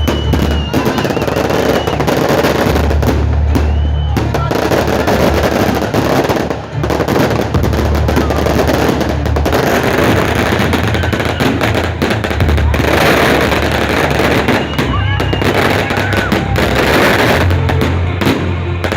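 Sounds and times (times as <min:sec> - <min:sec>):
fireworks crackling and banging: 0:00.0 - 0:18.9
loud music with pulsing bass: 0:00.0 - 0:18.9.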